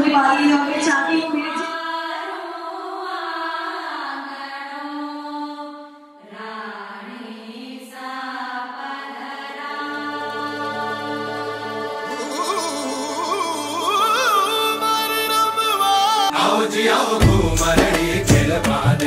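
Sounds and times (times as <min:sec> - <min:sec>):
slow beatless chant-like music: 0:01.5 - 0:19.0.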